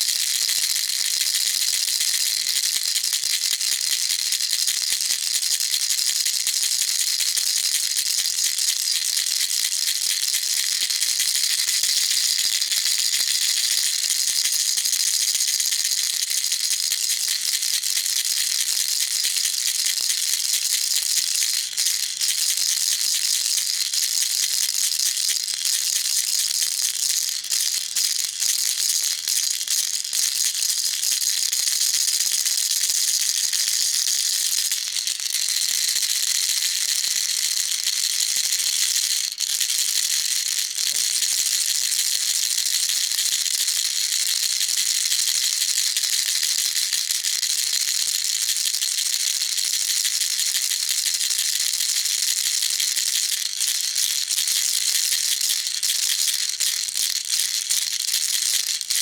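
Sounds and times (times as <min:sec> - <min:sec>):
baby rattle shaking: 0:08.3 - 0:47.2, 0:50.0 - 0:59.0.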